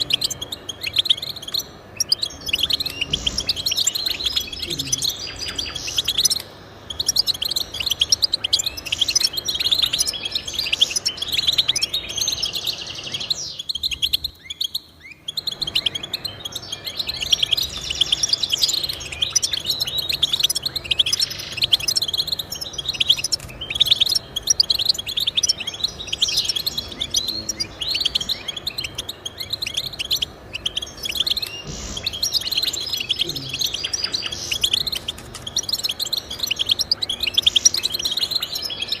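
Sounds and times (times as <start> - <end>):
finch twittering song: 0.0 - 39.0.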